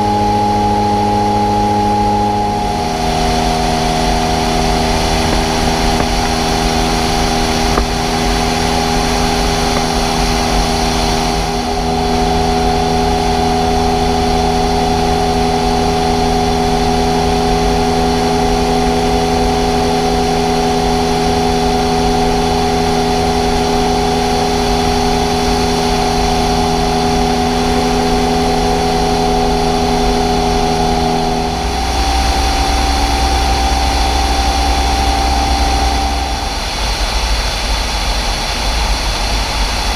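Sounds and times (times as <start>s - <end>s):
deep low rumble: 0.0s - 38.0s
ultralight engine and propeller droning: 0.0s - 39.9s.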